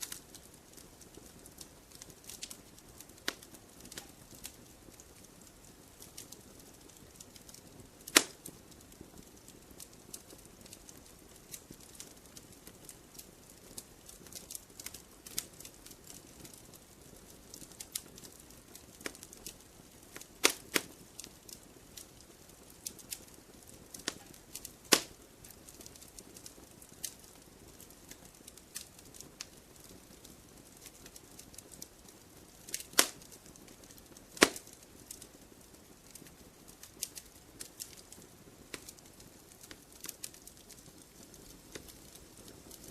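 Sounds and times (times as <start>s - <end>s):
loud fire pops: 0.0s - 31.9s, 32.6s - 35.3s, 36.0s - 42.9s
campfire crackling: 0.0s - 42.9s
soft hiss: 0.0s - 42.9s.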